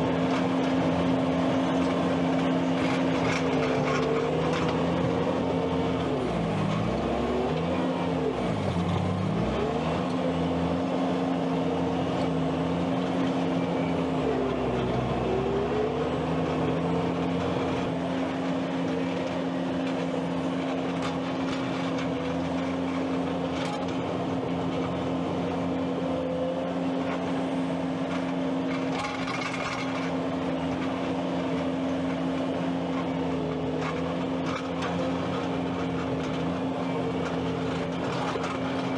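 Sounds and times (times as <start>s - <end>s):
skid steer engine revving: 0.0s - 38.9s.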